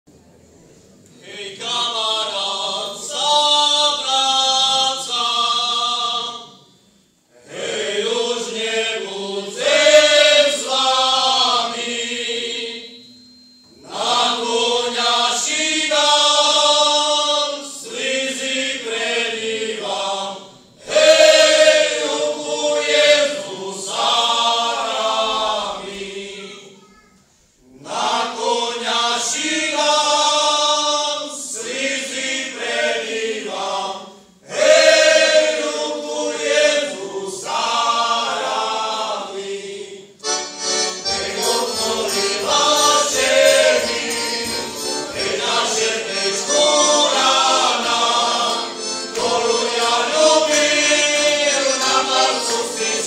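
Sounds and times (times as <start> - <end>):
male group singing folk song: 1.2 - 6.5, 7.4 - 13.0, 13.8 - 26.4, 27.8 - 53.0.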